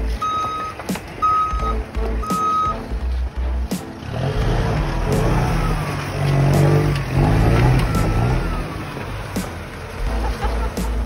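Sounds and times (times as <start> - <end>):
pickup engine revving: 0.0 - 11.0.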